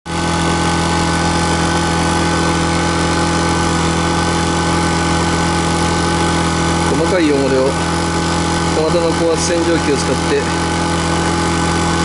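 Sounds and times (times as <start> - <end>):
small engine running pressure washer: 0.1 - 12.0.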